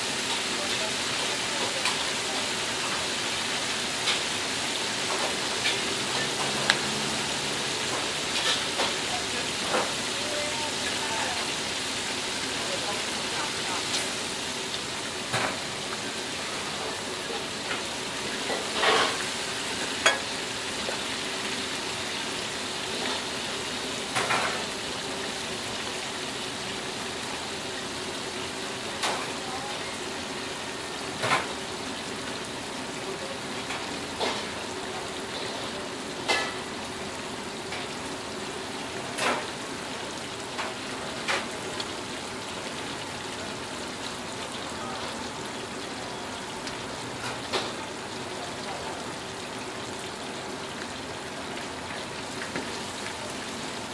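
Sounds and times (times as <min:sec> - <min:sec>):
oil sizzling in a wok: 0:00.0 - 0:53.9.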